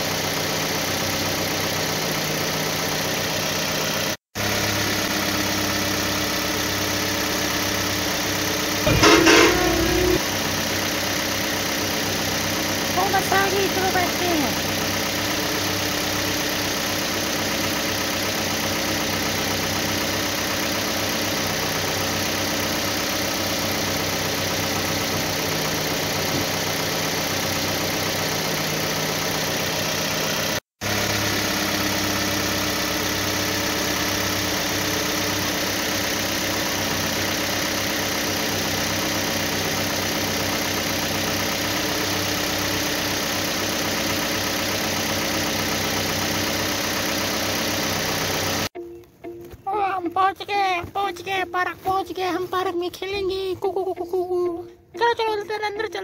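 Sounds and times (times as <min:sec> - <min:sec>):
engine idling: 0:00.0 - 0:48.7.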